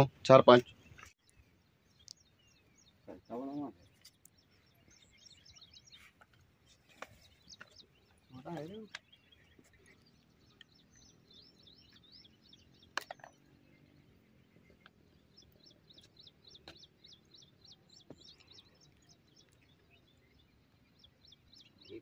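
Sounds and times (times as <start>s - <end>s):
birdsong with quick high chirps: 0.0s - 22.0s.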